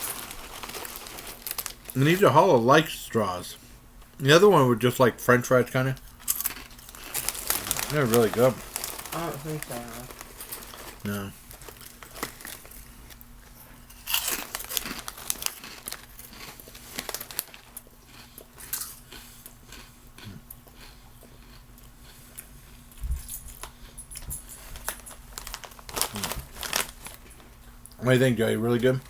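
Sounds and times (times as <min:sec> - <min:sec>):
crunchy snack being chewed: 0:00.0 - 0:02.2, 0:06.2 - 0:28.0
crinkling: 0:00.0 - 0:02.8, 0:05.9 - 0:19.0, 0:21.5 - 0:29.0.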